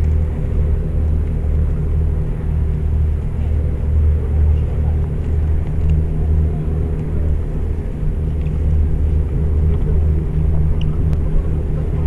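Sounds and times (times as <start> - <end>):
ship engine drone: 0.0 - 12.0.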